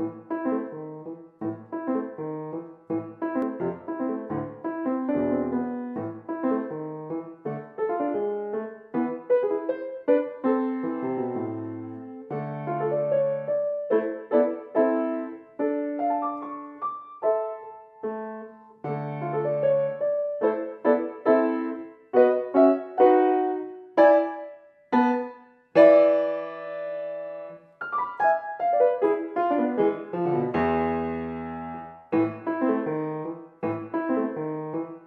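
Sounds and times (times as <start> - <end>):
solo grand piano: 0.0 - 35.0.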